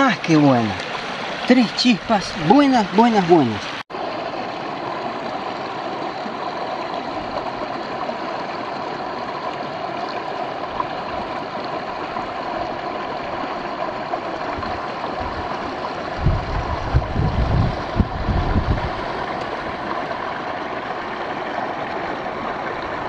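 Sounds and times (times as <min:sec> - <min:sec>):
river running over rocks: 0:00.0 - 0:23.0.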